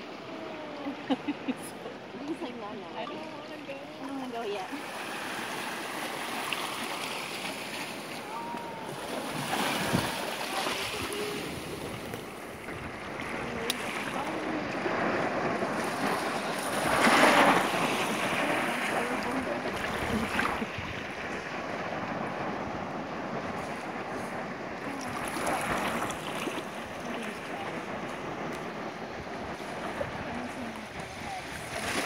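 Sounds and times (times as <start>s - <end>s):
small waves washing over sand: 0.0s - 32.0s
wind on microphone: 0.0s - 32.0s.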